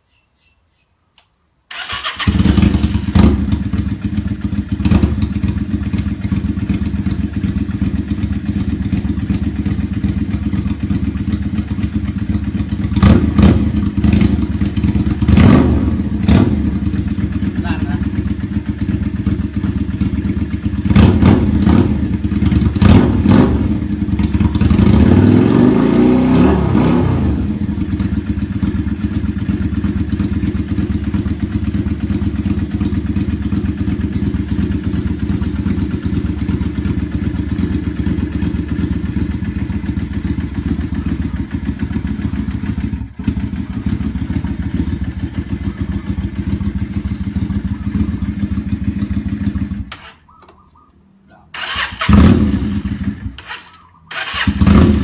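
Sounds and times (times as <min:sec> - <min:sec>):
motorcycle engine revving and idling: 0:01.7 - 0:55.0.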